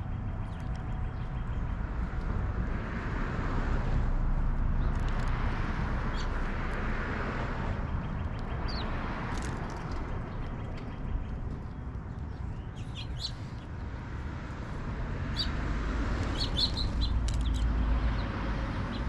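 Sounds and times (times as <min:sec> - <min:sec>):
vehicle passing: 0:00.0 - 0:19.0.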